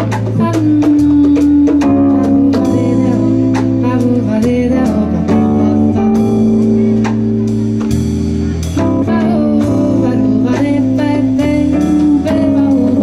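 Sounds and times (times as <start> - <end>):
drum kit and cymbal hits: 0.0 - 13.0
electric bass notes: 0.0 - 13.0
keyboard melody: 0.0 - 13.0.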